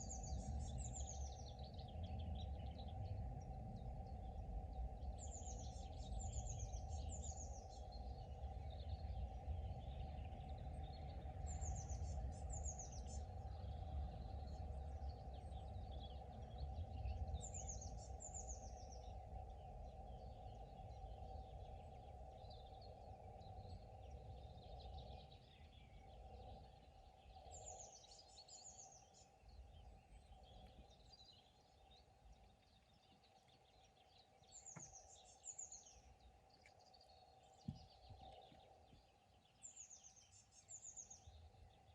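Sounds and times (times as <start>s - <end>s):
birds chirping softly: 0.0s - 41.9s.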